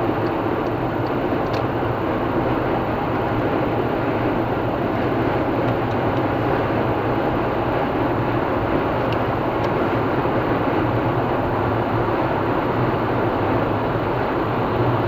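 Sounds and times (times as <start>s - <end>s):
car driving on highway: 0.0s - 15.0s.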